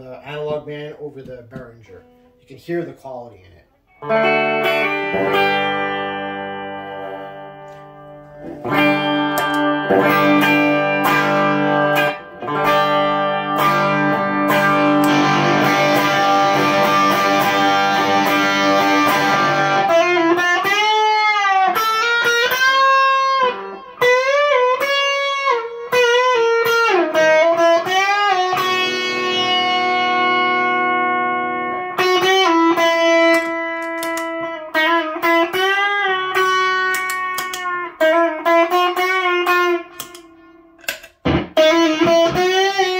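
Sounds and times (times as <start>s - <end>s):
overdriven electric guitar: 3.7s - 42.9s.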